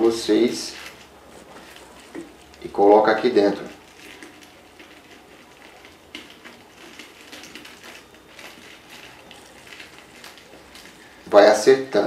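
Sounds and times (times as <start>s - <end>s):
foil crinkling and rustling: 0.0s - 12.0s.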